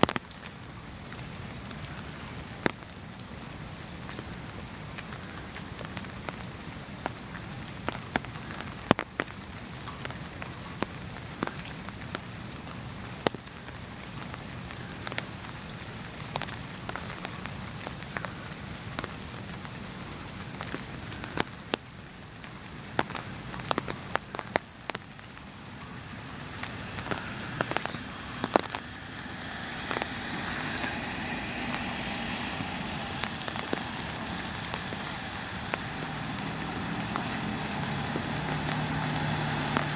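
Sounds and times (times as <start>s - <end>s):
rain drops tapping: 0.0s - 39.9s.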